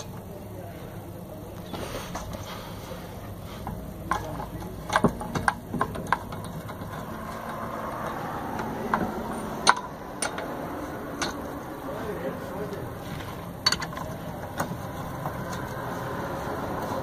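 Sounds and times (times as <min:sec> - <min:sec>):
low engine-like hum: 0:00.0 - 0:17.0
lug nuts clicking onto wheel studs: 0:03.2 - 0:17.0.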